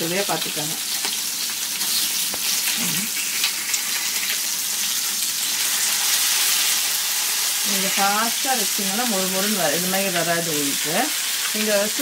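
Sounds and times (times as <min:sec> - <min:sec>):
fish sizzling in oil: 0:00.0 - 0:12.0
spatula turning food in pan: 0:00.0 - 0:12.0.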